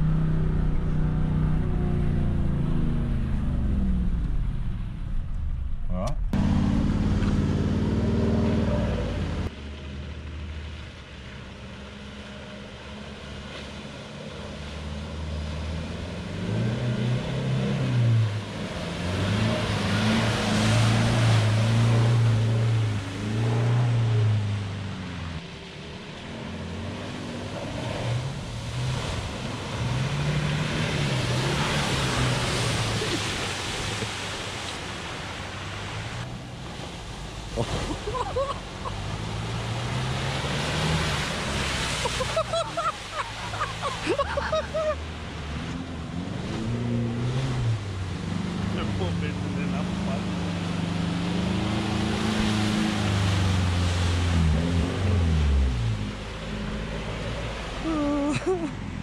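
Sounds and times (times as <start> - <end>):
engines revving: 0.0 - 10.7, 11.5 - 59.0.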